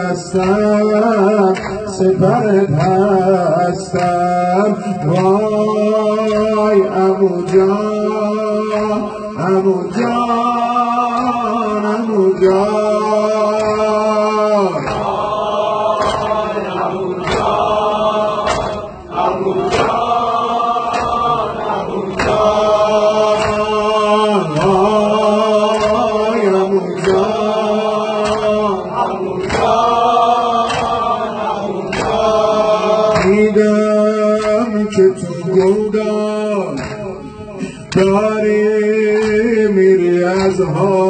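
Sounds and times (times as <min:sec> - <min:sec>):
men chanting a lament: 0:00.0 - 0:41.0.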